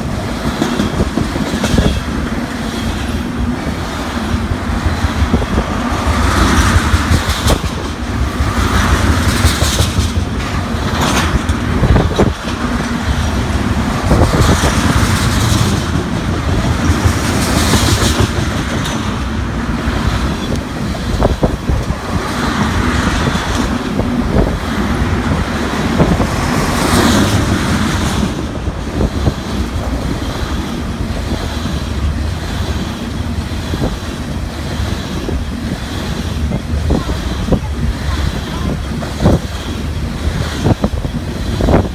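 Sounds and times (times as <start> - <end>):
clatter over rail joints: 0.0 - 3.2, 4.8 - 41.9
train wheels rumbling on rail: 0.0 - 41.9.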